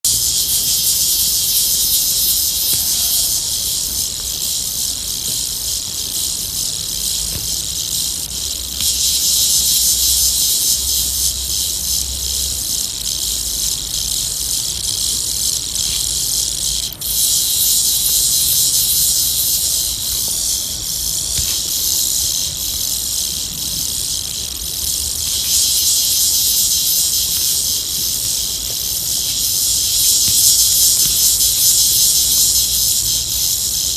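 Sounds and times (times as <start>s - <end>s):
tarantula hissing: 0.1s - 33.9s.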